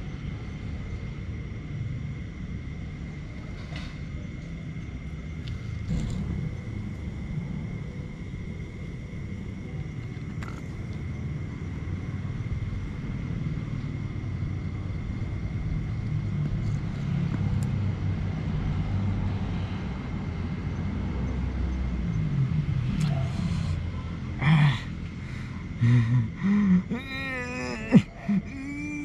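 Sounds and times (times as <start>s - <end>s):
steady low rumble: 4.2s - 29.0s.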